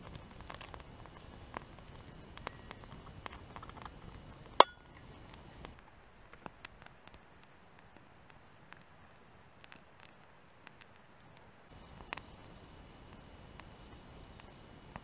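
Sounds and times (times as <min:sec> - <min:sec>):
campfire crackling: 0:00.0 - 0:15.0
fire snaps and pops: 0:00.0 - 0:15.0.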